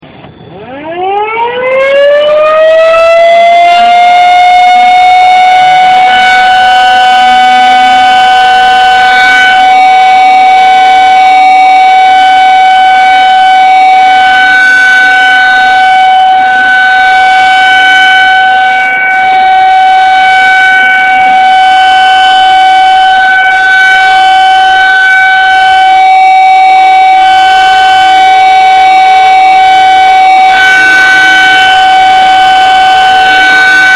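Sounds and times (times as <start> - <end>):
warning siren wailing: 0.3 - 33.9.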